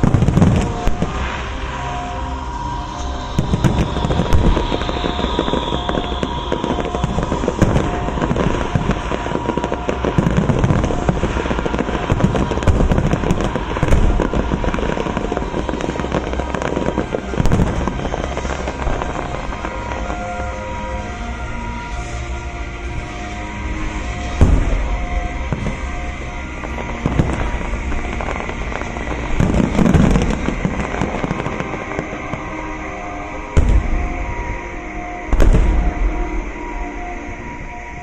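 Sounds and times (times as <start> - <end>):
fireworks bursting: 0.0 - 38.0
fireworks crackling: 0.0 - 38.0
music: 0.0 - 38.0.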